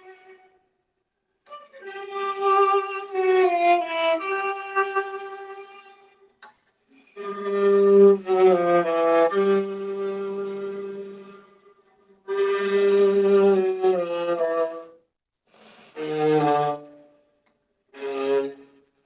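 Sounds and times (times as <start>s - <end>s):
bowed viola: 0.0s - 0.6s, 1.5s - 6.2s, 7.0s - 15.0s, 15.8s - 17.3s, 17.9s - 18.9s.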